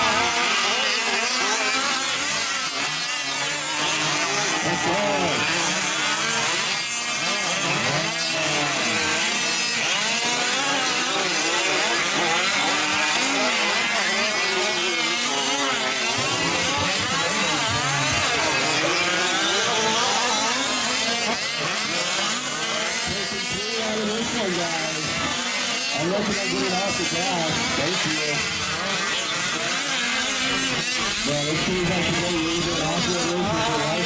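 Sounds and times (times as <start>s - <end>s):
small two-stroke engines revving: 0.0s - 34.0s.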